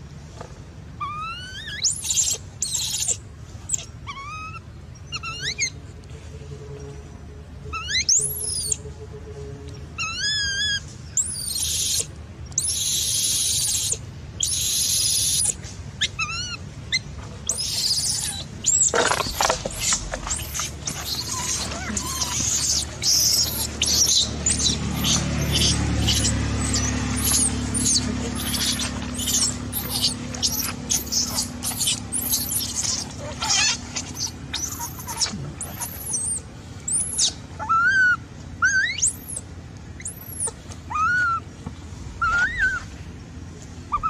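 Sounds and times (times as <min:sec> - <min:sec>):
baby monkey screaming and squealing: 0:01.0 - 0:05.8, 0:07.7 - 0:08.8, 0:10.0 - 0:41.5, 0:42.2 - 0:42.9.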